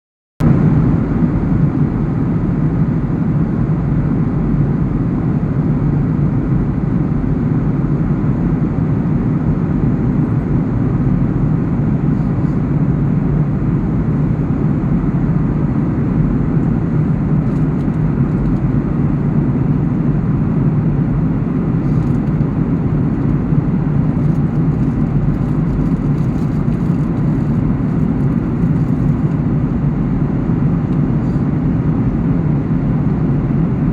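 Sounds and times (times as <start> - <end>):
jet cabin engine noise: 0.4 - 33.9.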